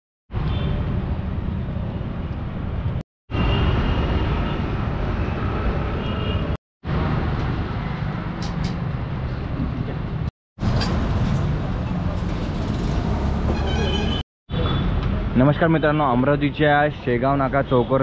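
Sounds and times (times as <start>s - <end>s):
low rumble of traffic: 0.3s - 18.0s.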